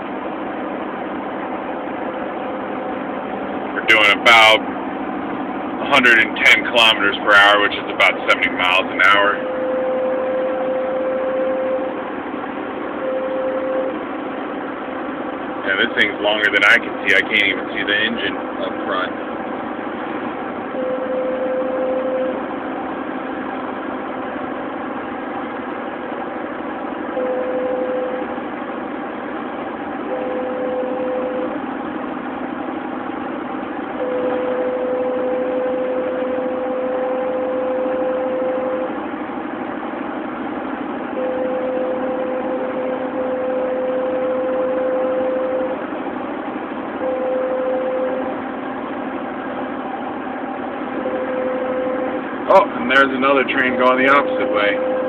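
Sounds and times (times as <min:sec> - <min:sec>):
steady mid-pitched tone: 0:00.0 - 0:19.2, 0:20.2 - 0:22.6, 0:27.1 - 0:28.4, 0:30.0 - 0:31.6, 0:33.9 - 0:39.1, 0:40.0 - 0:55.0
car road and engine noise: 0:00.0 - 0:55.0.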